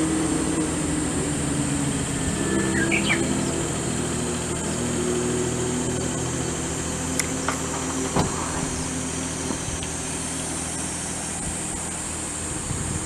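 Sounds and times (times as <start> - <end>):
high insect drone: 0.0 - 13.0
low engine hum: 0.0 - 13.0.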